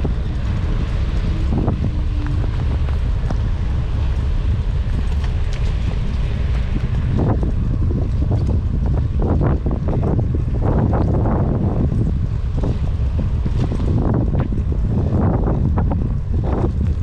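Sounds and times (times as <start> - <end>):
bicycle rolling on brick paving: 0.0 - 17.0
wind buffeting microphone: 0.0 - 17.0.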